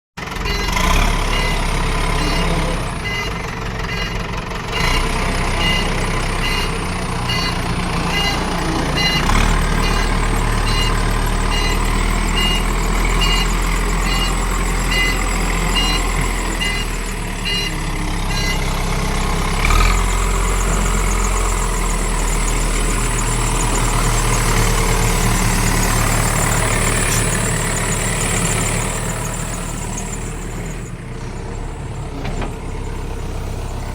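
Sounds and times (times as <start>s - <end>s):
diesel engine idling: 0.2s - 33.9s
electronic beeps: 0.5s - 1.6s, 2.2s - 4.2s, 5.6s - 18.7s, 19.9s - 31.0s.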